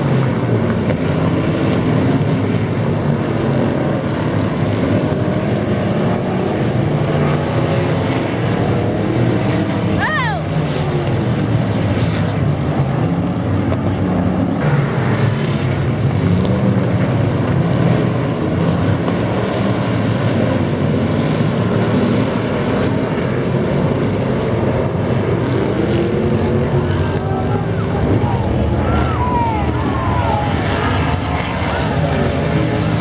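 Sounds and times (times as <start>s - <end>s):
dense rushing noise: 0.0s - 33.0s
race car engines revving: 0.0s - 33.0s.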